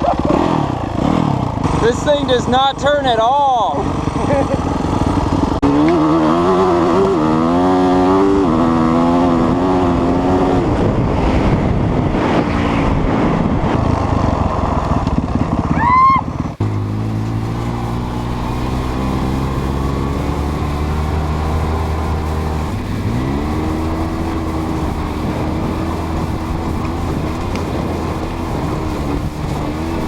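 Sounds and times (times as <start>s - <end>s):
engine droning: 0.0s - 30.0s
off-road vehicle engine revving: 0.0s - 30.0s.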